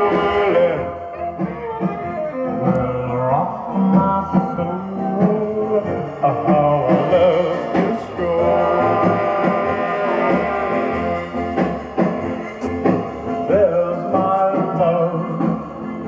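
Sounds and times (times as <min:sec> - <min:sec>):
drums: 0:00.0 - 0:16.0
rock and roll record on jukebox: 0:00.0 - 0:16.0.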